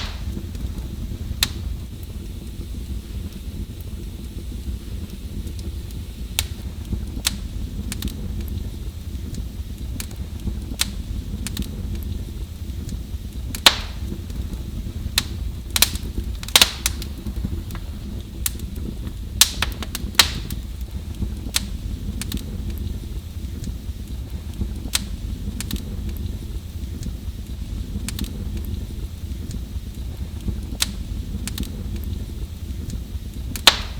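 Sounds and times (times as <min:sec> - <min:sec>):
wood fire crackling in fireplace: 0:00.0 - 0:33.9.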